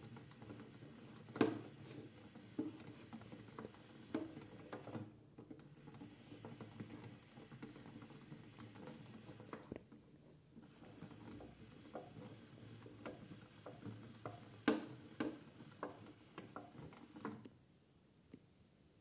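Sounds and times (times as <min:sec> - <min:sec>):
plastic knocks and clicks: 0:00.1 - 0:10.0, 0:10.7 - 0:17.5.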